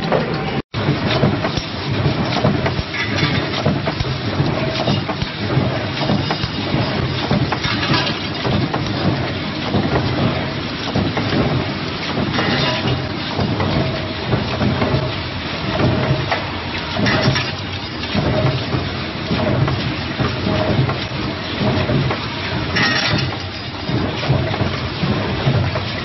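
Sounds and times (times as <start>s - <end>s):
tapping machine clatter: 0.0s - 26.0s.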